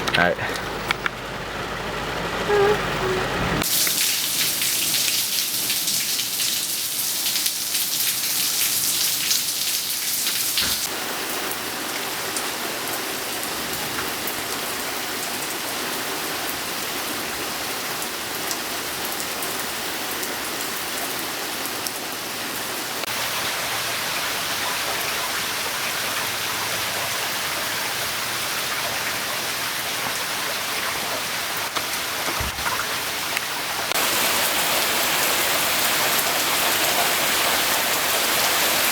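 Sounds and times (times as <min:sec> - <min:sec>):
rain pattering: 0:03.4 - 0:38.9.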